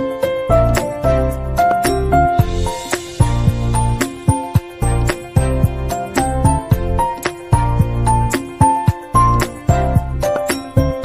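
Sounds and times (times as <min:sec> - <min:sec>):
background music with bass and beat: 0:00.0 - 0:11.0.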